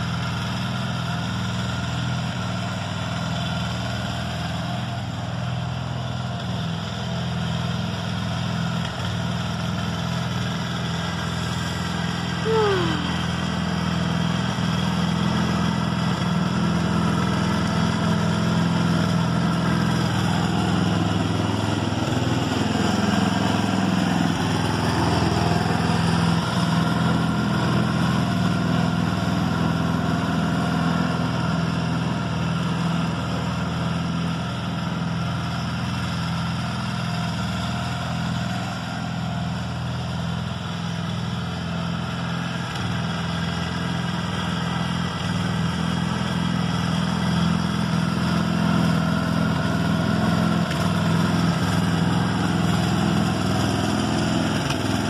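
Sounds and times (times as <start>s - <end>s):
lawnmower cutting grass: 0.0s - 55.0s.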